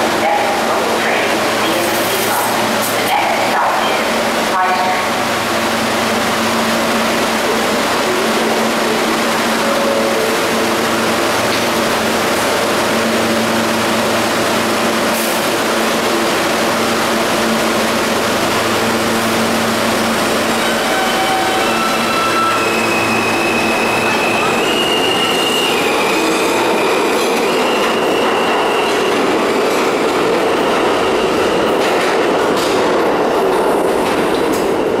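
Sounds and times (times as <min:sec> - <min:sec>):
subway train electrical hum: 0:00.0 - 0:35.0.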